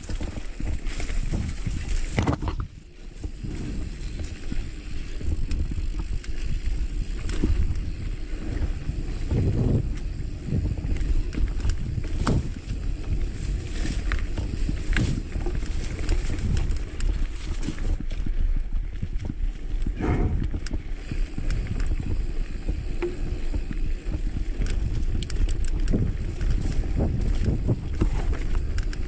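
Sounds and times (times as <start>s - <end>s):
bike clicks and rattles: 0.0s - 29.0s
bike tyres rumbling on dirt: 0.0s - 29.0s.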